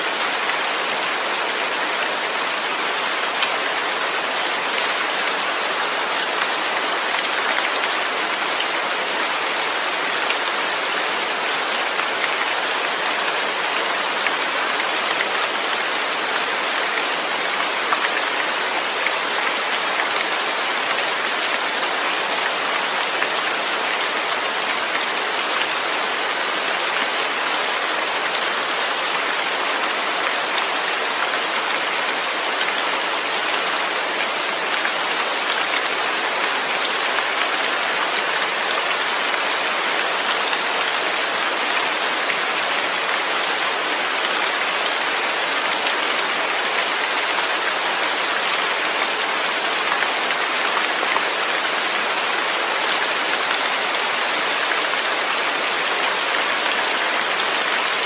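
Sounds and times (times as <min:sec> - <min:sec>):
dense rain hiss: 0:00.0 - 0:58.0.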